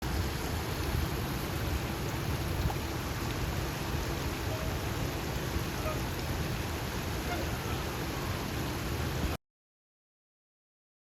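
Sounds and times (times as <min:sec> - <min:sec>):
floodwater rushing: 0:00.0 - 0:09.4.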